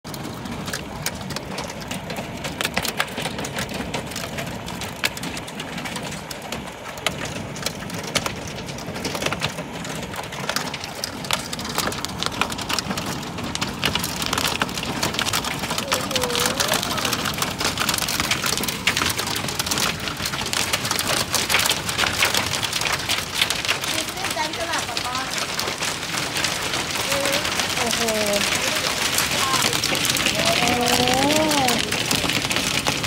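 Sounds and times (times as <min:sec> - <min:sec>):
hailstones ticking: 0:00.1 - 0:33.0
rain hissing on asphalt: 0:00.1 - 0:33.0.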